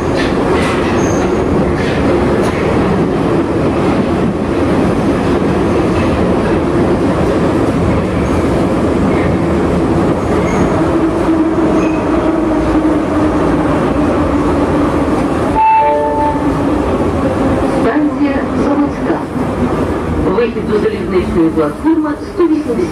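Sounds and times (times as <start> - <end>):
train wheels rumbling: 0.0 - 22.9.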